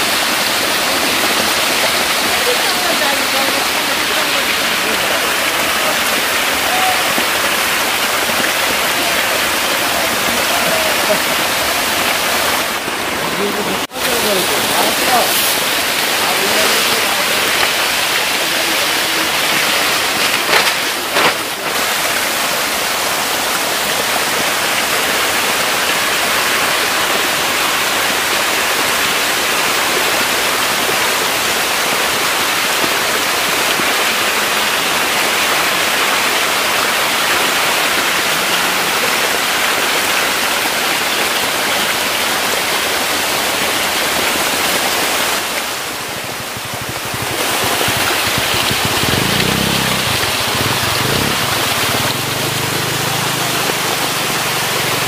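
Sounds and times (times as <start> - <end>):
water rushing and splashing: 0.0 - 55.0.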